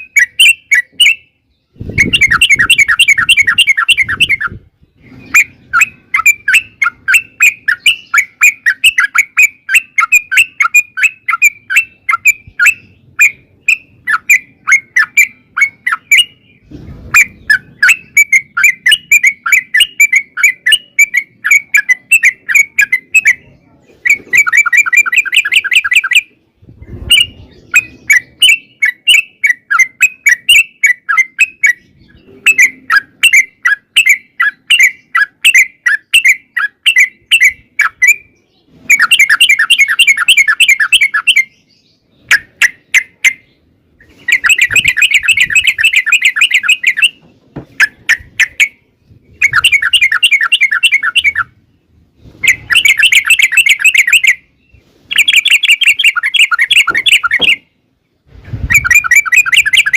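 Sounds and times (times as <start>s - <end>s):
bird singing chattering runs: 0.0s - 57.8s.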